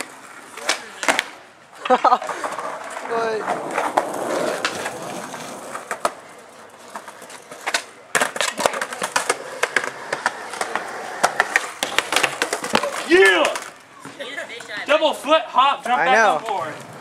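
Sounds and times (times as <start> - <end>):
skateboard rolling on concrete: 0.0 - 17.0
skateboards clacking on ground: 0.0 - 17.0.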